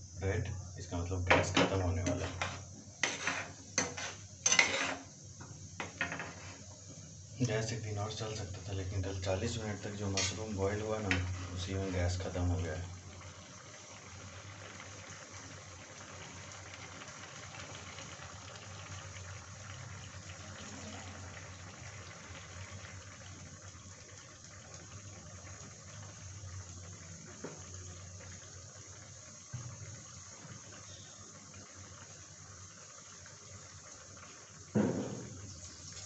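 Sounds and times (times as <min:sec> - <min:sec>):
curry bubbling in a pan: 0:00.0 - 0:36.0.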